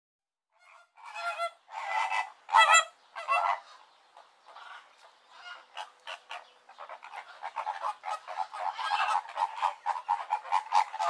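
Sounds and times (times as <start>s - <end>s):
flamingos calling: 0.6s - 11.0s.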